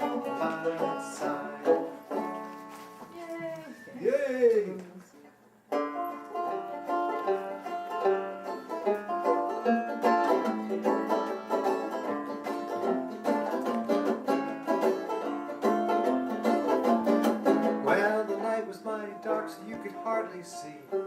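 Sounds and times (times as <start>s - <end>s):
quickly picked banjo music: 0.0s - 2.6s, 5.7s - 21.0s.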